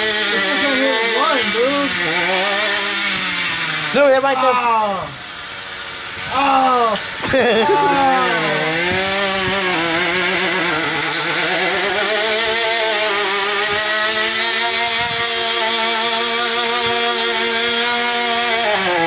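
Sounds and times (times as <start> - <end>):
engine running at high speed: 0.0 - 19.0.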